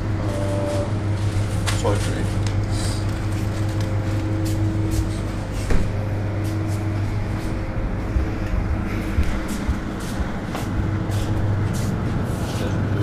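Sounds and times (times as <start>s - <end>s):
refrigerated coolers humming: 0.0s - 13.0s.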